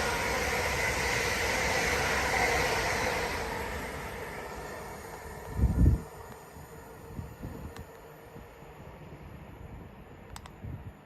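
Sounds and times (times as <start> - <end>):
passing train running: 0.0 - 11.0.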